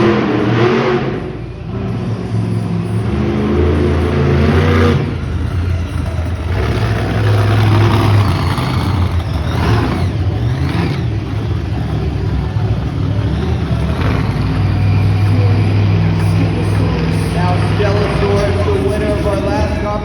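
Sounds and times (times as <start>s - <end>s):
toy monster truck engine revving: 2.6s - 19.7s.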